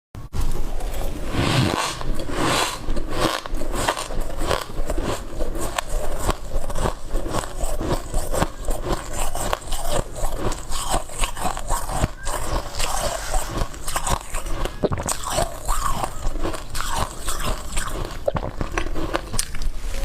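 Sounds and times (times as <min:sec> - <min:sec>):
ice crunching while chewing: 0:01.6 - 0:20.0.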